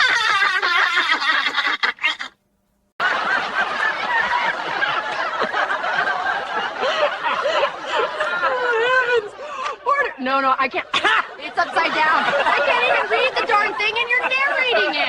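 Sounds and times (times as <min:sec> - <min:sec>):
people snickering and chuckling: 0:00.0 - 0:02.3, 0:03.0 - 0:09.9, 0:10.8 - 0:15.0.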